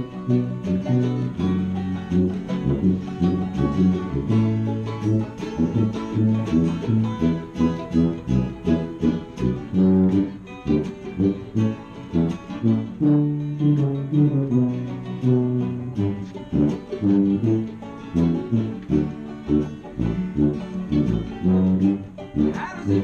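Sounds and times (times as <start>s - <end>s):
plucked string instrument: 0.0s - 23.0s
strummed acoustic guitar: 0.0s - 23.0s
tuba bass line: 0.0s - 23.0s.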